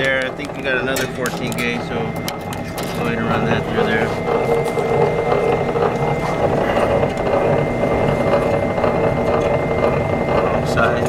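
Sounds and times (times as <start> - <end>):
wire stripping machine running: 0.0 - 11.0.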